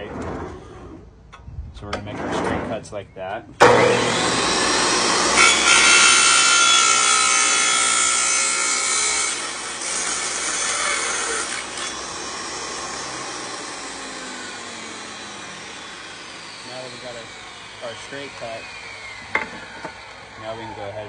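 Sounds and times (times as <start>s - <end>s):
saw blade grinding through metal: 3.6s - 21.0s.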